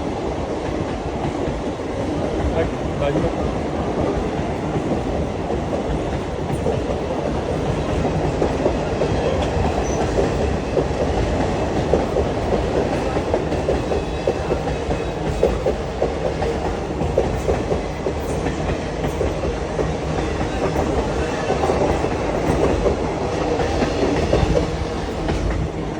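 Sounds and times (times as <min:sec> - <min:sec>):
train wheels clattering on rails: 0:00.0 - 0:25.9.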